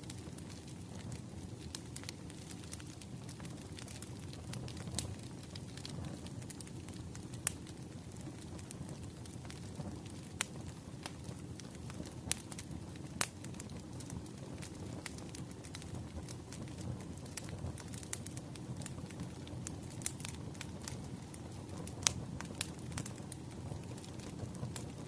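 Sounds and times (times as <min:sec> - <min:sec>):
low rumble of flames: 0:00.0 - 0:25.0
firewood popping and snapping: 0:00.1 - 0:24.9.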